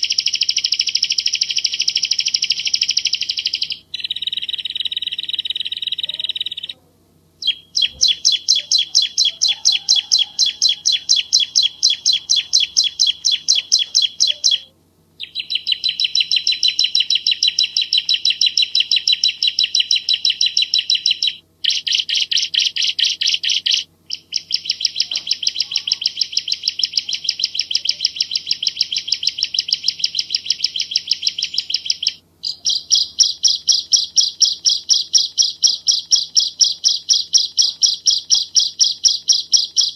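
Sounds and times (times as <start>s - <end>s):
bird singing rapid chirps: 0.0s - 6.8s, 7.4s - 39.9s.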